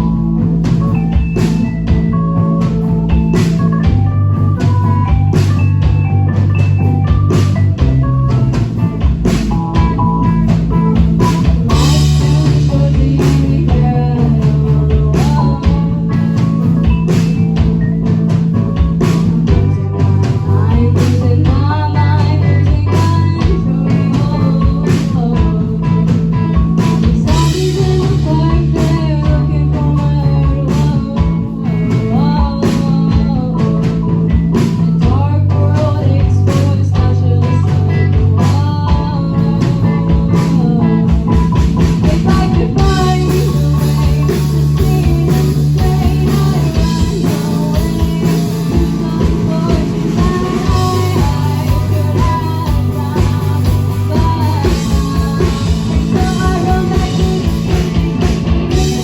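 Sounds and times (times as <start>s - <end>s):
bass line: 0.0s - 59.0s
electric guitar: 0.0s - 59.0s
steady drum beat: 0.0s - 59.0s.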